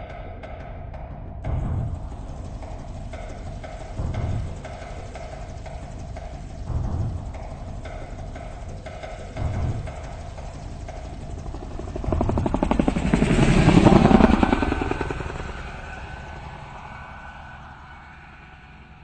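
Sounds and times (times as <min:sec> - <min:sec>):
pulsing mechanical rumble: 0:00.0 - 0:19.0.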